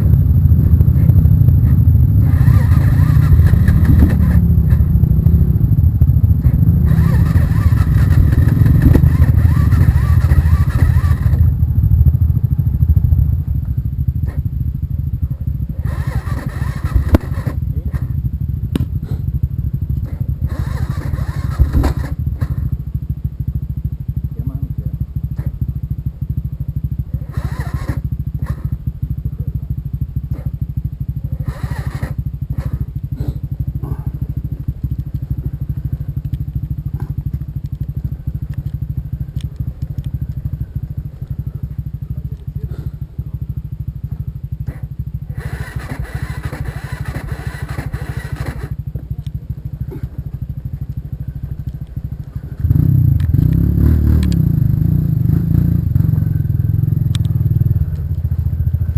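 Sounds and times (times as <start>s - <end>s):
motorcycle engine idling: 0.0s - 58.9s.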